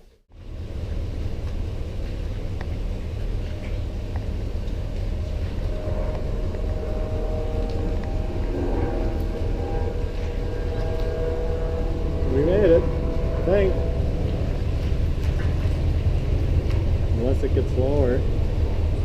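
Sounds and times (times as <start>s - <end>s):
faint steady whine: 0.1s - 19.0s
vehicle engine and road rumble: 0.2s - 19.0s.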